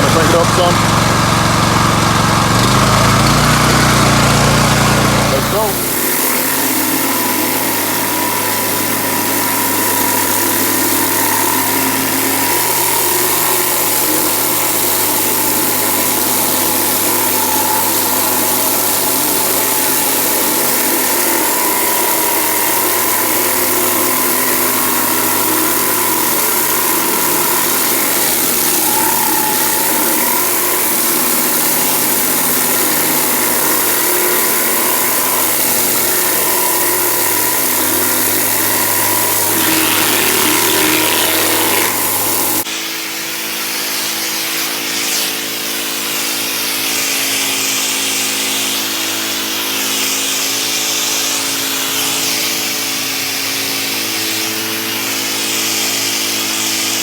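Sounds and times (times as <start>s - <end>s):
high-pressure water jet hissing: 0.0s - 57.0s
pressure washer engine running: 0.0s - 57.0s.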